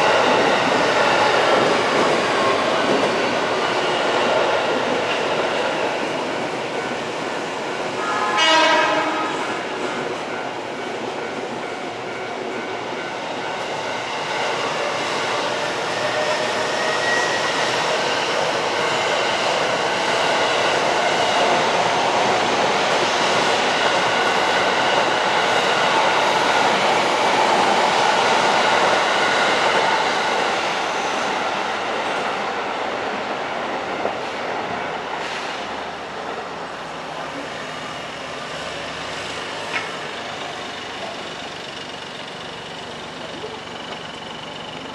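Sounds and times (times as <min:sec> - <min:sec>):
train running past: 0:00.0 - 0:44.9.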